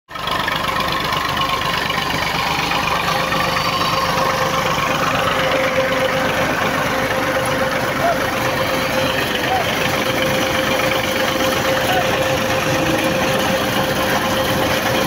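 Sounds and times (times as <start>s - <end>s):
tractor engine running under load: 0.1s - 15.0s.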